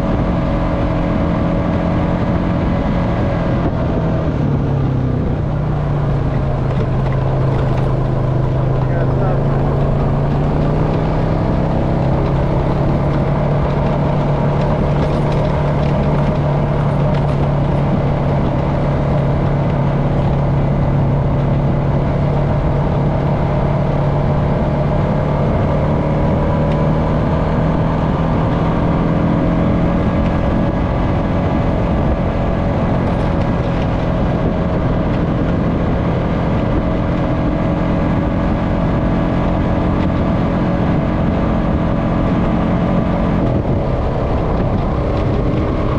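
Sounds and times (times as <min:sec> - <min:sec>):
atv engine running: 0:00.0 - 0:45.9
tyres on dirt road: 0:00.0 - 0:45.9.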